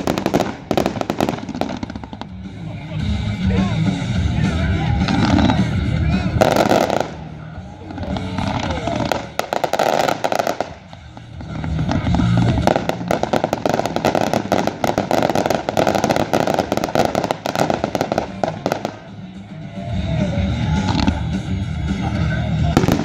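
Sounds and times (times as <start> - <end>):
fireworks crackling and popping: 0.0 - 23.0.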